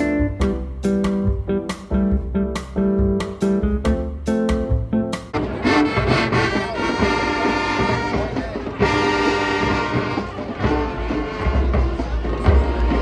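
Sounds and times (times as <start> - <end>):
marching band brass chords: 0.0 - 13.0.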